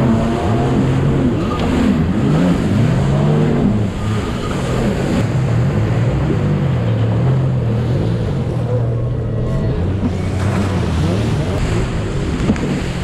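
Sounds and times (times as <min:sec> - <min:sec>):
rush of wind and water: 0:00.0 - 0:13.0
watercraft engine revving: 0:00.0 - 0:13.0.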